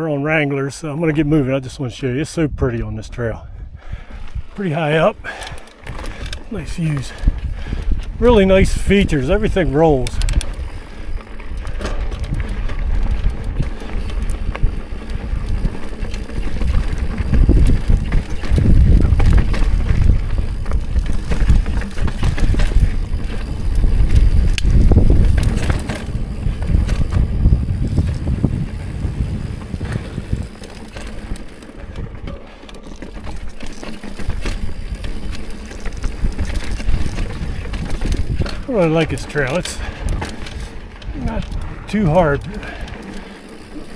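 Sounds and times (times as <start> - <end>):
bike clicks and rattles: 3.8 - 43.9
bike tyres rumbling on rocks: 3.9 - 43.9.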